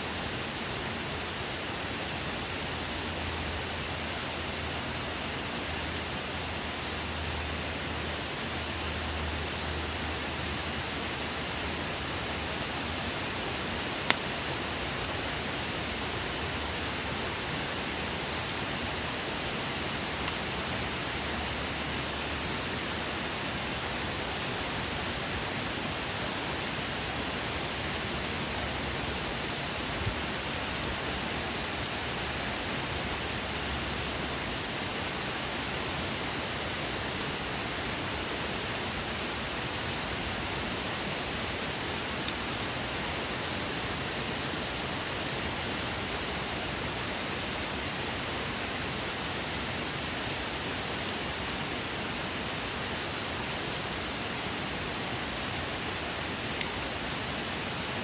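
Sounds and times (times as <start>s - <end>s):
steady outdoor hiss: 0.0s - 58.0s.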